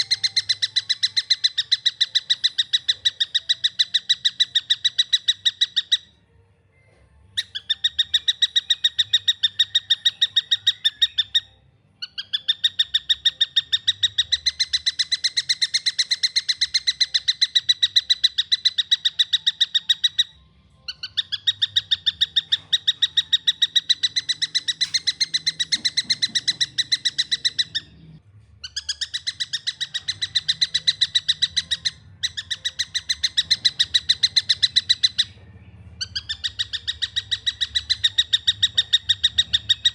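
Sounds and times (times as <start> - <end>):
bird calling shrill repeated notes: 0.0 - 6.3, 7.3 - 39.9.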